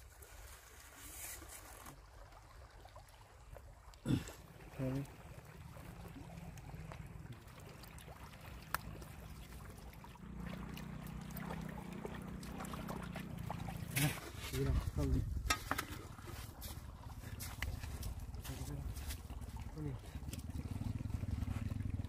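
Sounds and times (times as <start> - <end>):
muddy water pouring from pipes: 0.0 - 22.0.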